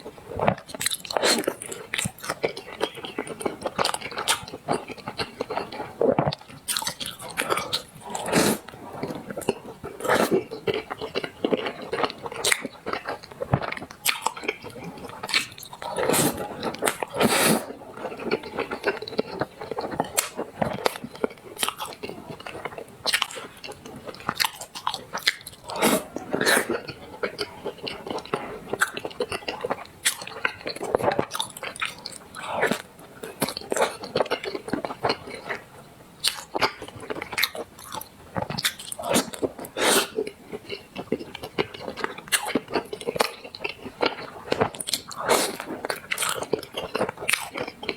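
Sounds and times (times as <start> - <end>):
wet mouth eating noises: 0.0 - 35.6, 36.2 - 47.9.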